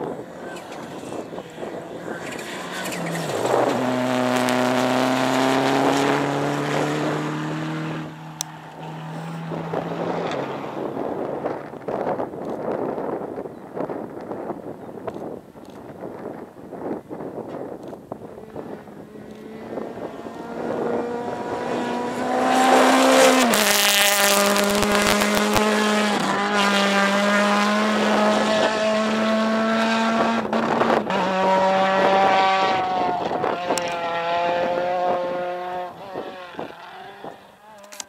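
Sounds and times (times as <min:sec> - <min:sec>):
rally car engine at high revs: 0:00.0 - 0:12.0, 0:18.3 - 0:37.9.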